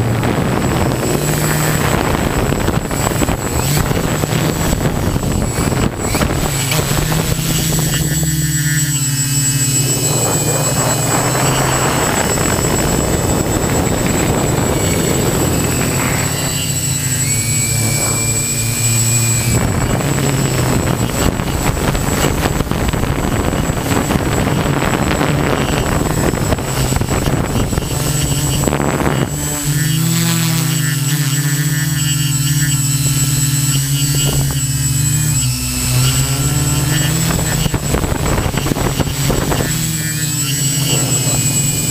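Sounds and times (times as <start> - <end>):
drone propellers buzzing: 0.0 - 41.9
wind rushing over microphone: 0.0 - 41.9.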